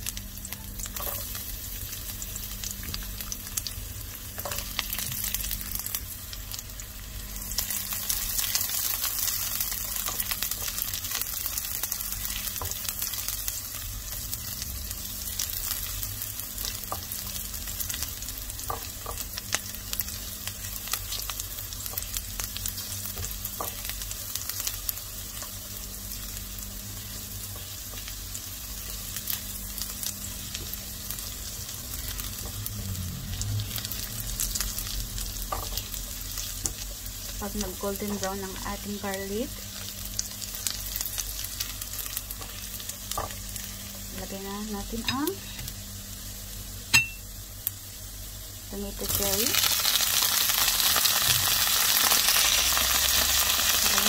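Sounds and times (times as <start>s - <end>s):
garlic sizzling in hot oil: 0.0s - 54.0s.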